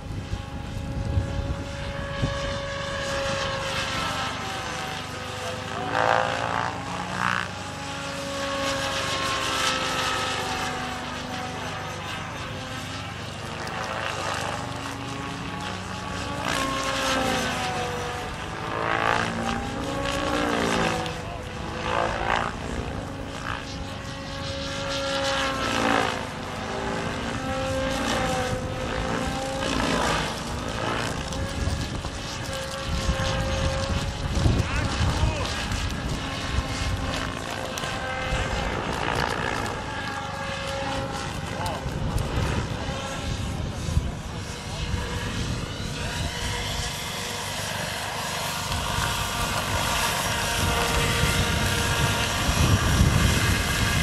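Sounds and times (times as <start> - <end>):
model helicopter rotor whine: 0.0 - 54.0.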